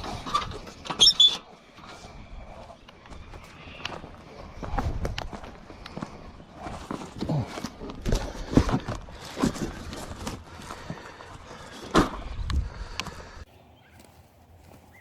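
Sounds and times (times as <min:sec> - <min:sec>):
crunching footsteps on rough ground: 0:00.0 - 0:15.0.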